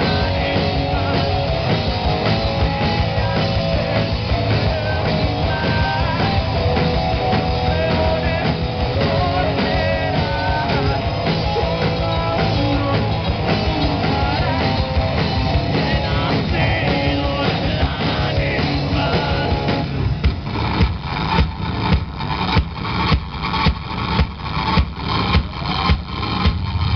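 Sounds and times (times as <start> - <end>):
live rock band playing: 0.0 - 26.9.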